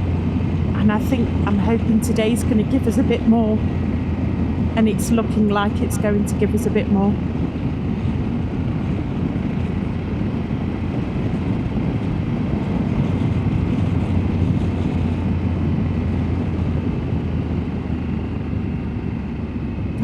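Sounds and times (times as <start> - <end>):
motorcycle engine drone: 0.0 - 20.0
road noise: 0.0 - 20.0.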